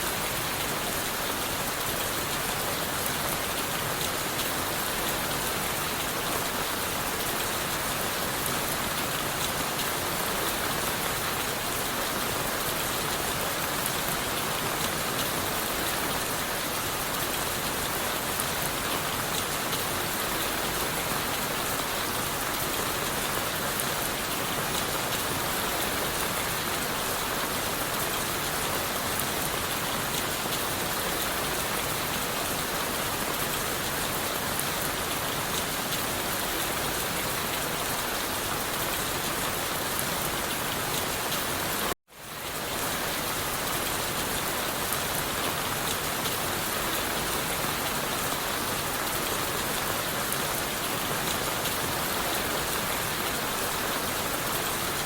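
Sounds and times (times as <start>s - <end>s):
rain on leaves and wood: 0.0s - 55.0s.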